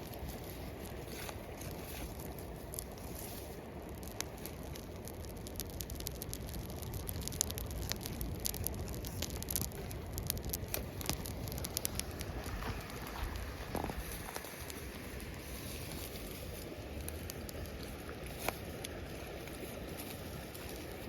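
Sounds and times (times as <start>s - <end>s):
low rumble: 0.0s - 21.0s
sharp pops from fire: 0.0s - 21.0s
wood fire crackling: 0.0s - 21.0s.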